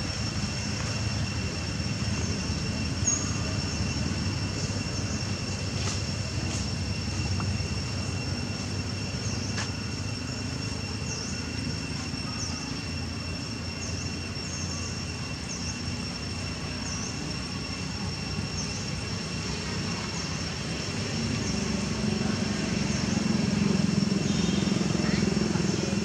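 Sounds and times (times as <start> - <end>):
high-pitched whine: 0.0 - 26.0.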